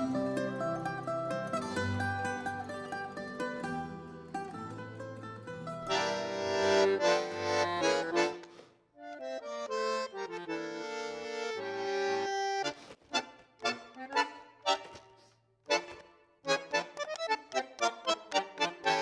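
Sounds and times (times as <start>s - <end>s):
accordion folk music: 0.0s - 19.0s.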